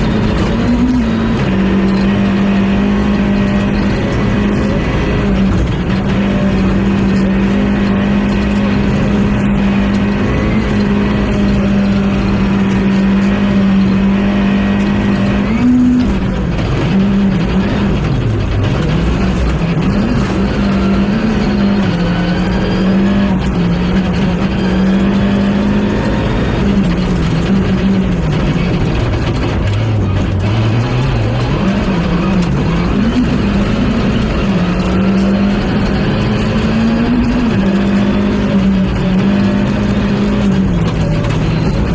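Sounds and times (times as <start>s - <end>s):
rally car engine revving: 0.0s - 41.9s.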